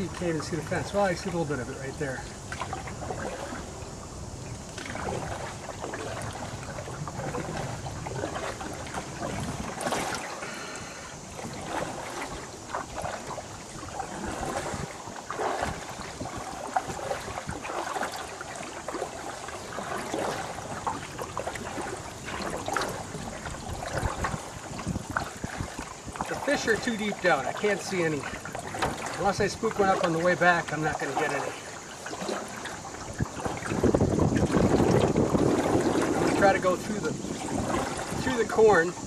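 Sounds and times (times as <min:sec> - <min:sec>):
paddle splashing in water: 0:00.0 - 0:39.0
water dripping off paddle: 0:00.0 - 0:39.0.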